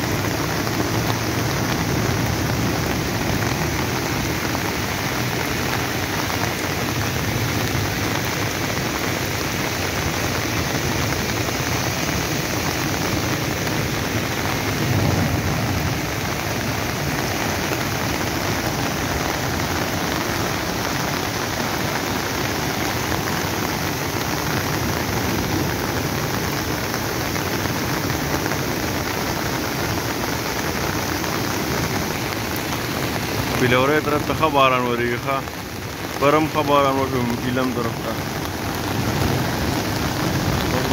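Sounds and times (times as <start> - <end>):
heavy rain: 0.0 - 40.9
stream rushing over boulders: 0.0 - 40.9.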